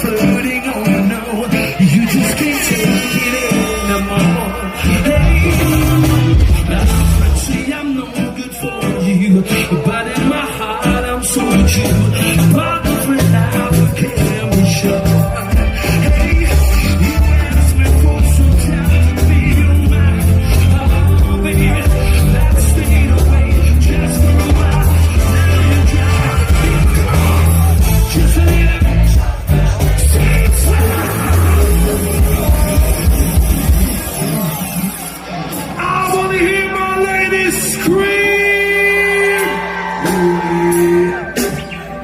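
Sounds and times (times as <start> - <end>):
heavy bass line: 0.0 - 8.2, 10.7 - 39.4
person singing: 0.0 - 33.5, 35.8 - 42.0
live reggae band: 0.0 - 42.0.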